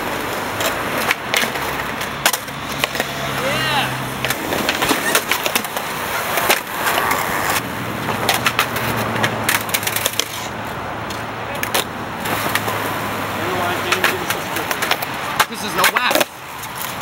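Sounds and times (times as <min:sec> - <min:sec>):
skateboard scraping along ledge: 0:00.0 - 0:17.0
skateboards clacking on ground: 0:00.0 - 0:17.0
wheels rolling on concrete: 0:00.0 - 0:17.0.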